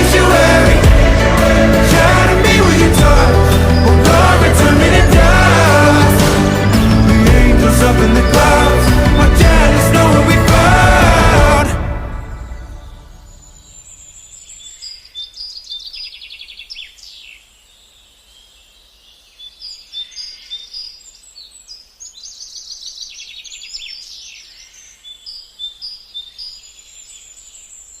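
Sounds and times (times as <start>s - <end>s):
songbirds singing: 0.0s - 11.0s, 12.3s - 28.0s.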